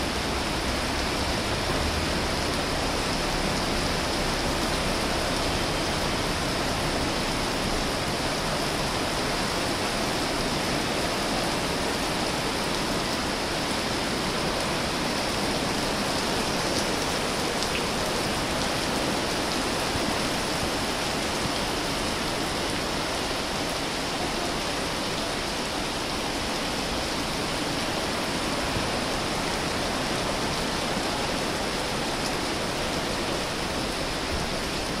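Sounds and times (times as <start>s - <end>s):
heavy rain on a street: 0.0s - 35.0s.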